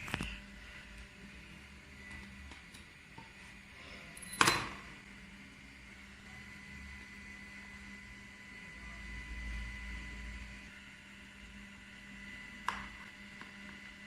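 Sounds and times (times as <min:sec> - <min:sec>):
engraving machine electrical whine: 0:00.0 - 0:14.0.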